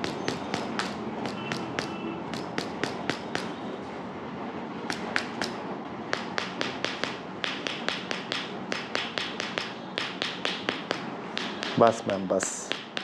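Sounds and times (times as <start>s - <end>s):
sharp taps or clicks: 0.0s - 3.6s, 4.9s - 13.0s.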